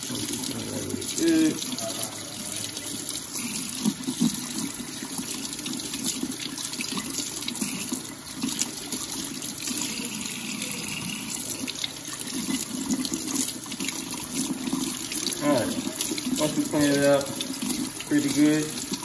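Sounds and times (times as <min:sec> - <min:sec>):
water running from a tap: 0:00.0 - 0:19.0.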